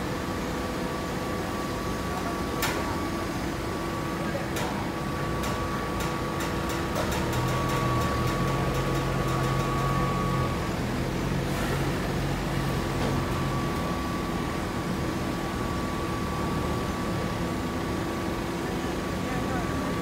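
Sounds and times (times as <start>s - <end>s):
hydraulic pump humming and whining: 0.0s - 20.0s.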